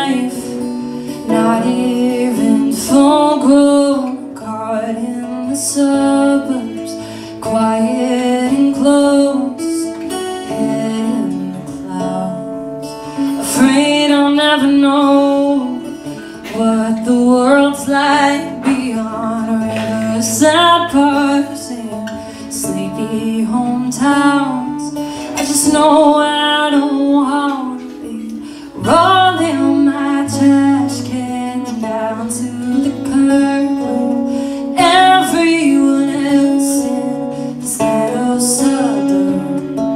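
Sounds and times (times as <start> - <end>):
acoustic guitars: 0.0 - 39.9
woman singing: 0.0 - 39.9.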